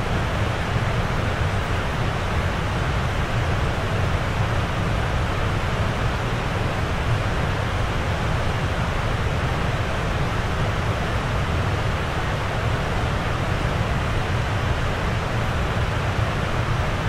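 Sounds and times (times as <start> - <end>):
rushing falling water: 0.0 - 17.0.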